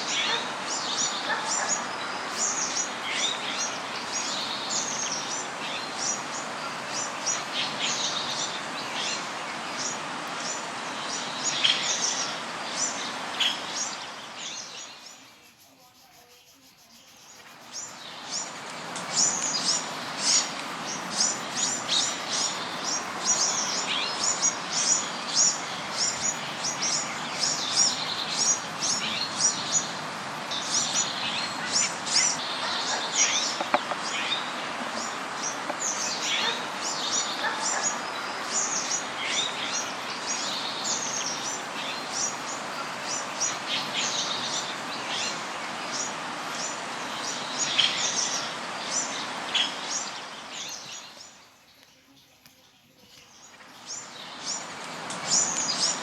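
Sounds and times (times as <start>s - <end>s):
background hiss: 0.0s - 56.0s
small birds chirping: 0.0s - 56.0s.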